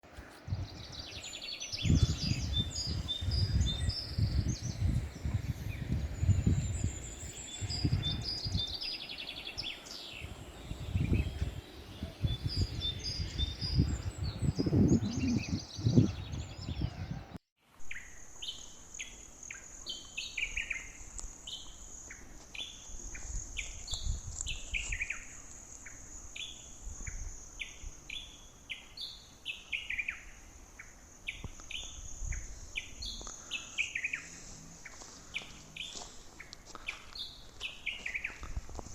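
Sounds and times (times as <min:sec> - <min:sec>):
songbirds chirping: 0:00.0 - 0:38.6.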